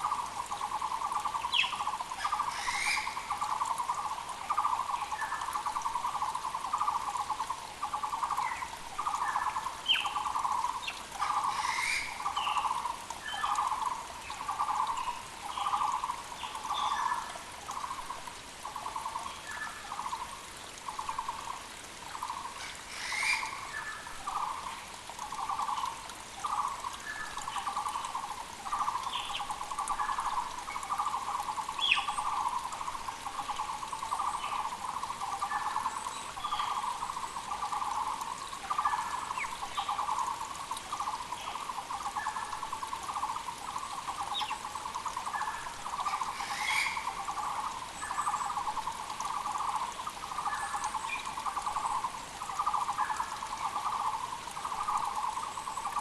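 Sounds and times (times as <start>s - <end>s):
faint creek rushing: 0.0s - 56.0s.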